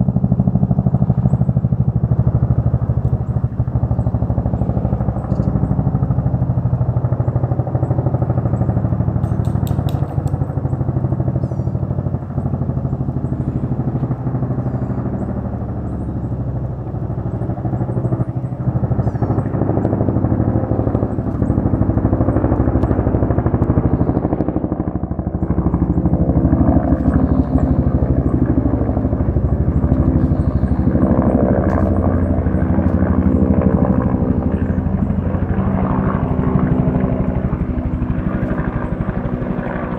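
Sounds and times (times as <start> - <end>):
helicopter rotor blades beating: 0.0 - 39.9
helicopter turbine running: 0.0 - 39.9.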